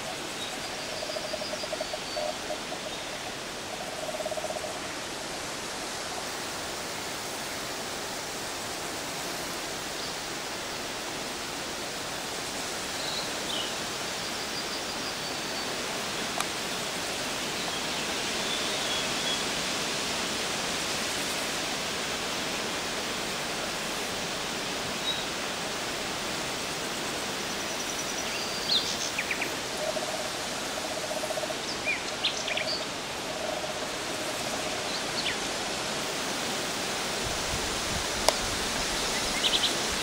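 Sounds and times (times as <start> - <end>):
rural background hiss: 0.0 - 40.0.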